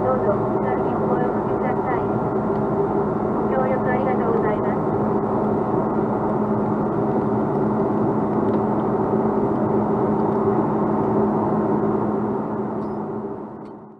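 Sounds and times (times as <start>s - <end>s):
airplane cabin engine drone: 0.0s - 13.9s
constant low hum: 0.0s - 13.9s.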